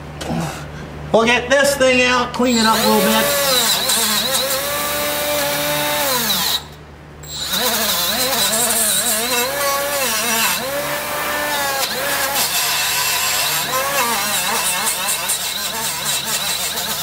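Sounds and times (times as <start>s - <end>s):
die grinder motor whine: 2.5s - 17.0s.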